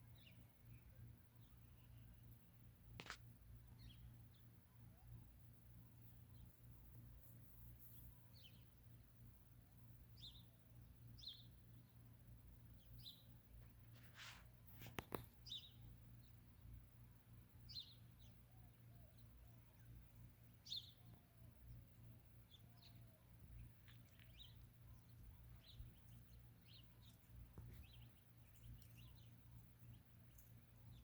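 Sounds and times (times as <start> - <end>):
faint birds chirping: 0.0 - 31.0
low steady hum: 0.0 - 31.0.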